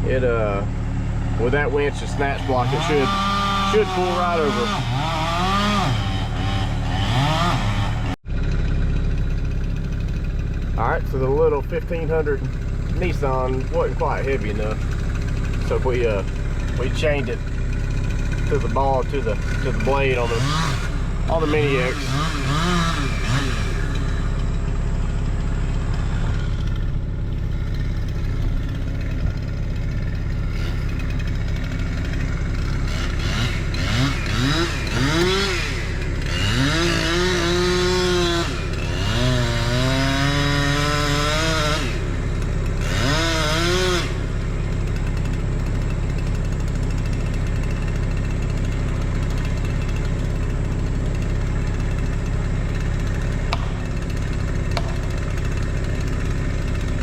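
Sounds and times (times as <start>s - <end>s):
chainsaw revving while cutting wood: 0.0s - 8.5s, 9.2s - 10.7s, 12.2s - 57.0s
engine idling: 0.0s - 57.0s.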